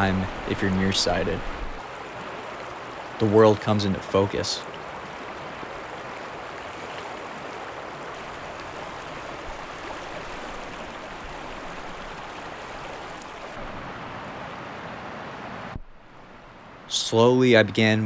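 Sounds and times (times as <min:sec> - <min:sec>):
river running over rocks: 0:00.0 - 0:16.8.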